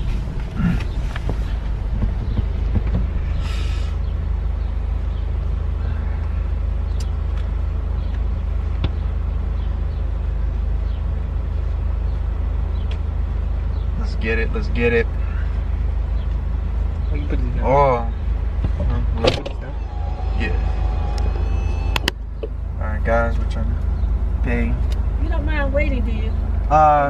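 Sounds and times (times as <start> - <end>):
car engine rumbling inside cabin: 0.0 - 27.0.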